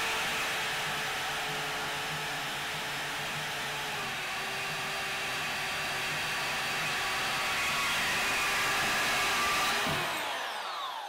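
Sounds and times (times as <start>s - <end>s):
motor winding down: 0.0s - 11.0s
bandsaw cutting steel: 0.1s - 11.0s.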